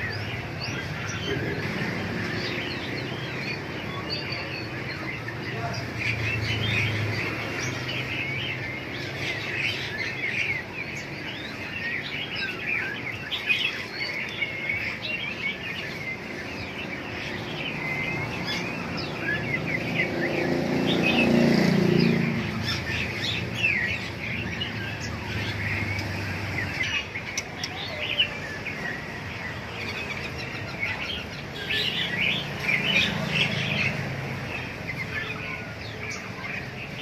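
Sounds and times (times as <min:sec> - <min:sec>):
caged birds chirping: 0:00.0 - 0:37.0.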